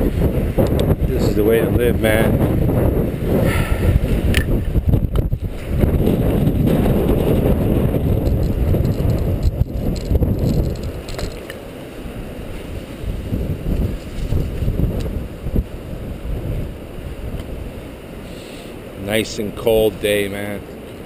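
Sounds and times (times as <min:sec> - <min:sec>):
wind buffeting microphone: 0:00.0 - 0:20.3.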